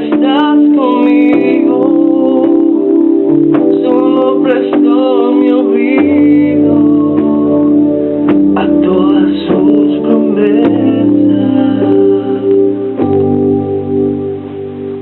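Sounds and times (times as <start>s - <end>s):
organ-toned keyboard chords: 0.0s - 15.0s.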